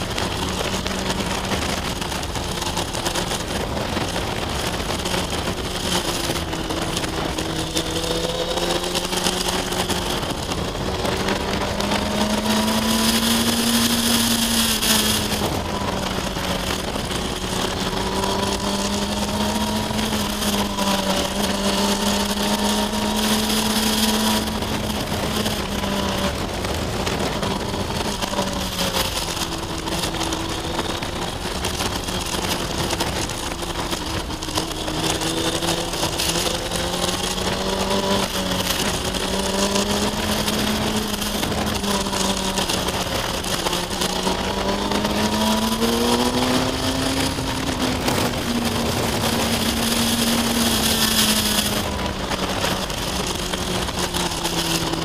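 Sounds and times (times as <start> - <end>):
motorcycle engine revving: 0.0 - 55.0
wind rushing on microphone: 0.0 - 55.0.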